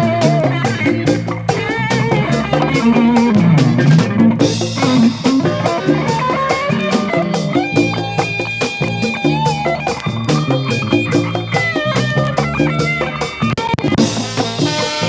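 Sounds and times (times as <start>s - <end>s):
bass line: 0.0s - 15.0s
drum kit: 0.0s - 15.0s
guitar lines: 0.0s - 15.0s.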